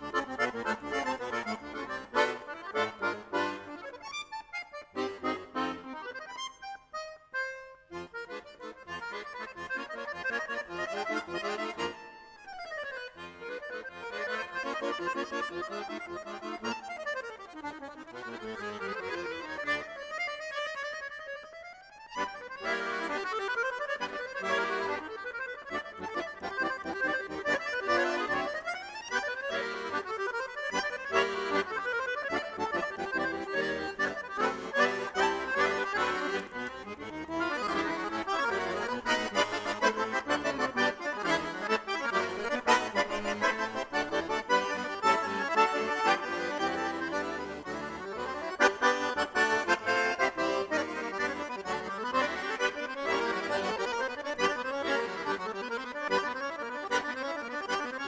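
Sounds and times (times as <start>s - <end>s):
accordion playing fast solo: 0.0s - 58.0s.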